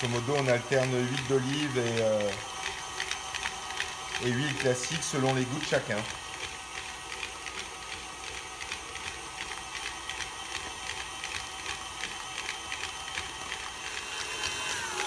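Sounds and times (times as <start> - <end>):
regular clicking: 0.0 - 15.0
stand mixer motor whine: 0.0 - 15.0.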